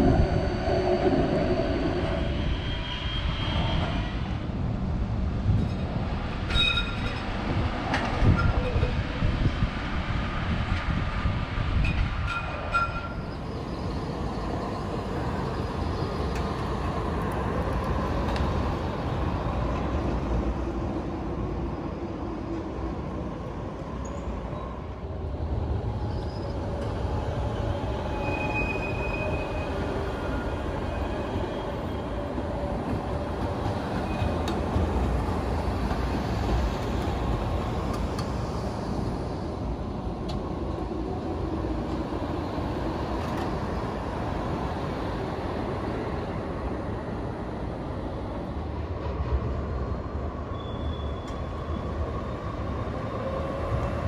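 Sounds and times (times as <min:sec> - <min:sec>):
tram wheels and motors rumbling: 0:00.0 - 0:54.0.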